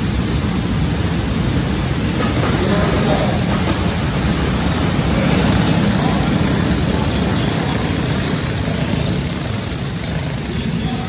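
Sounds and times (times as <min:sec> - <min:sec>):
go-kart engines racing: 0:00.0 - 0:11.0.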